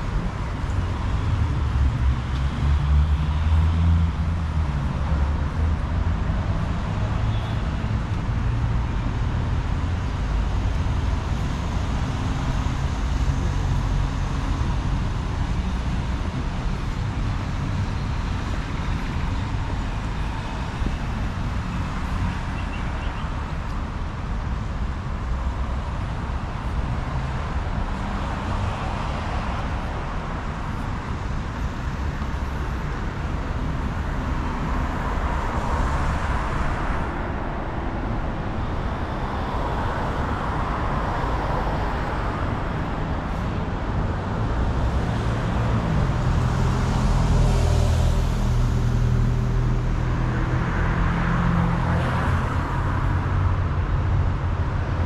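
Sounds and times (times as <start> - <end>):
cars passing: 0.0 - 55.0.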